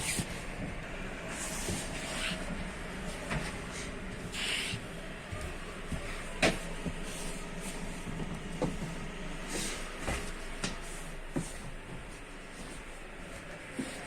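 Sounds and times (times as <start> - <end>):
train interior hum: 0.0 - 14.0.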